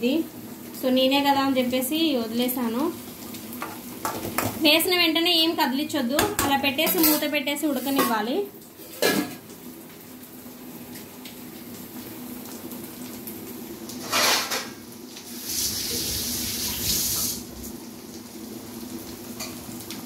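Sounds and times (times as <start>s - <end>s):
food frying in oil: 0.0s - 20.0s.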